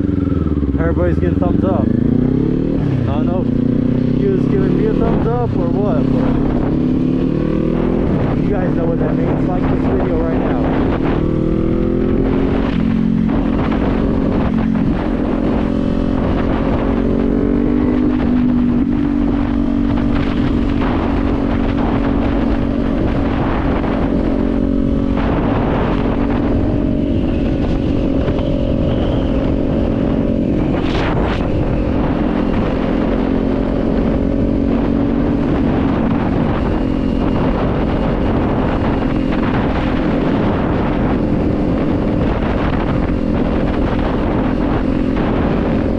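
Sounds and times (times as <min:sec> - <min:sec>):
motorcycle engine cruising: 0:00.0 - 0:45.9
wind noise on microphone: 0:00.0 - 0:45.9.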